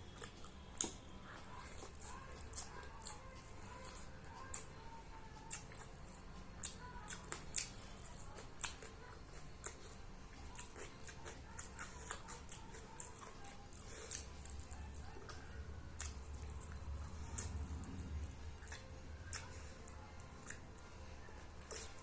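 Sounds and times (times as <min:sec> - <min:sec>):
lip smacks and chewing: 0:00.0 - 0:04.8, 0:05.4 - 0:22.0.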